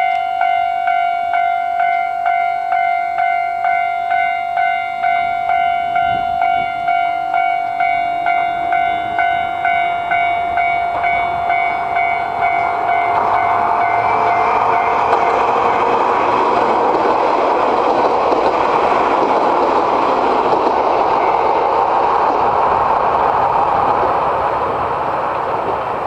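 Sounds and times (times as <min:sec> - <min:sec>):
crossing warning bell ringing: 0:00.0 - 0:26.0
train wheels rumbling on rail: 0:00.0 - 0:26.0.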